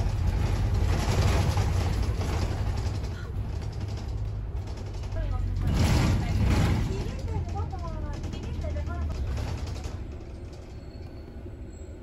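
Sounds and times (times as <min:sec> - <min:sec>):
window glass rattling and creaking: 0:00.0 - 0:11.1
bus engine and road rumble: 0:00.0 - 0:12.0.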